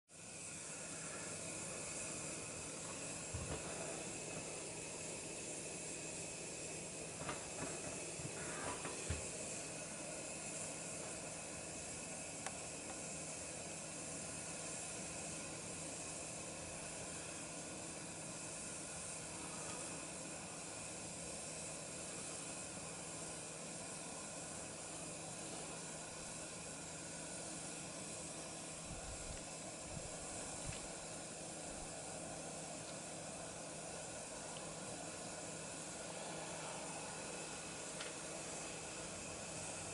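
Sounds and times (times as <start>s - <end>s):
outdoor background hiss: 0.1s - 39.9s.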